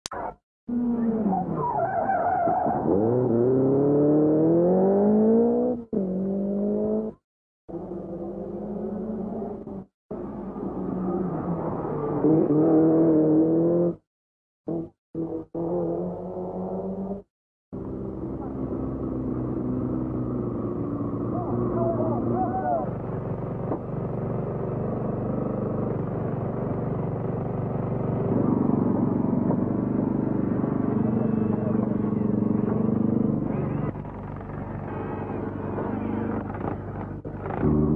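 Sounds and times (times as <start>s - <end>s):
rally car engine: 0.1s - 14.0s, 14.7s - 37.9s.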